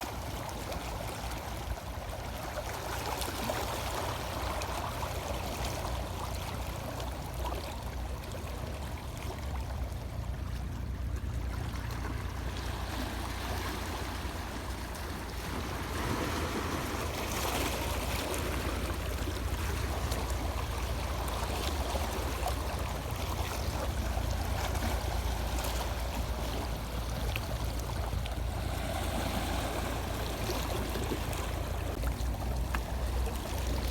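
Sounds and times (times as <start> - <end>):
sea waves washing on shore: 0.0 - 33.9.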